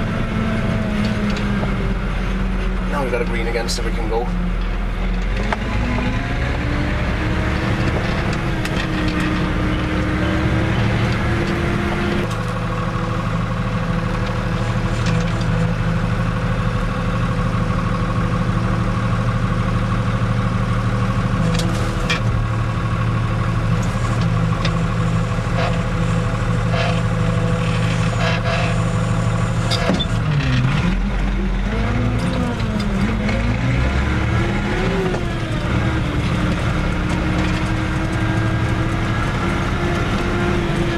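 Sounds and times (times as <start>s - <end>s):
tractor diesel engine: 0.0s - 40.9s.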